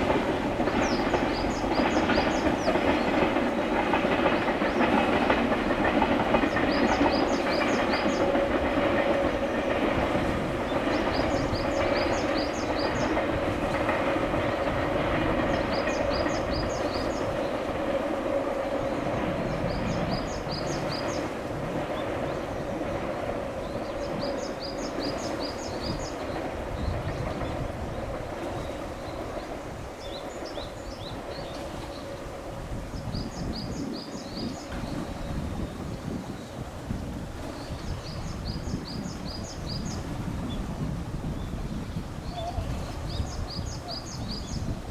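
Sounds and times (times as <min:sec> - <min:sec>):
electric train rumbling: 0:00.0 - 0:44.9.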